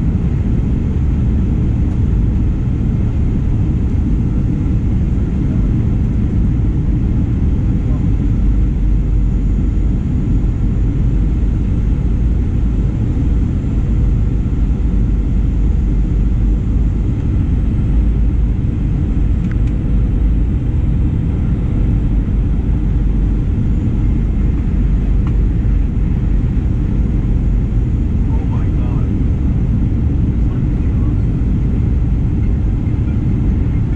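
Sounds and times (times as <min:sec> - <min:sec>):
airliner cabin rumble: 0:00.0 - 0:33.9.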